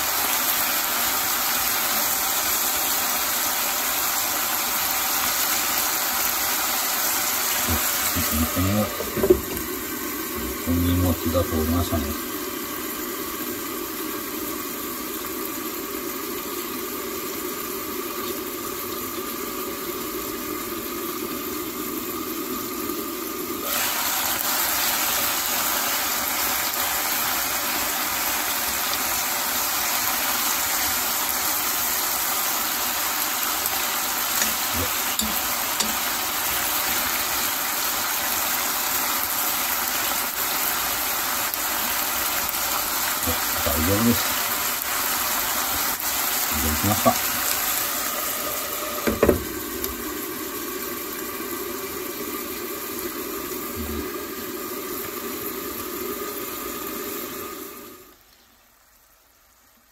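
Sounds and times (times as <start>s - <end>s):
stir-fry sizzling in a pan: 0.0s - 59.9s.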